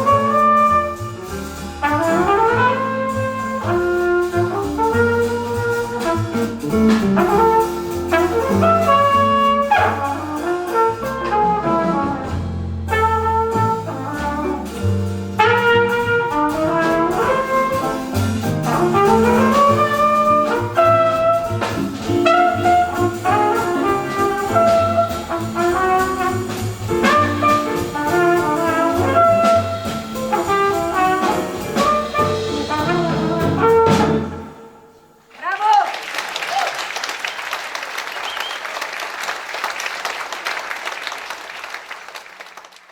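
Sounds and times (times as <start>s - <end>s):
double bass: 0.0s - 34.8s
flugelhorn: 0.0s - 34.9s
piano: 0.0s - 35.3s
drums: 0.0s - 42.2s.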